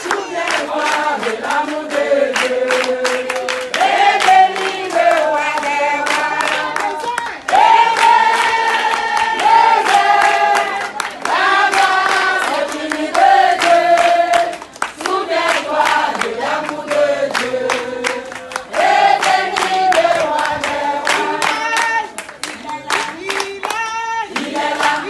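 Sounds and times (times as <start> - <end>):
group singing in unison: 0.0 - 6.9, 7.5 - 25.0
handclaps keeping a beat: 0.0 - 25.0.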